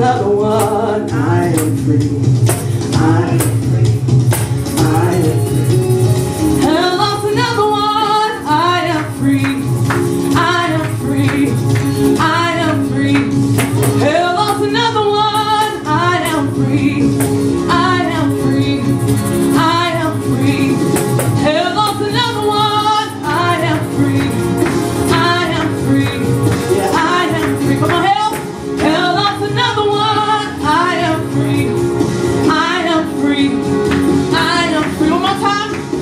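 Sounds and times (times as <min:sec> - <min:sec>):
woman singing gospel: 0:00.0 - 0:04.0, 0:04.7 - 0:05.7, 0:06.6 - 0:36.0
backing music held chords: 0:00.0 - 0:36.0.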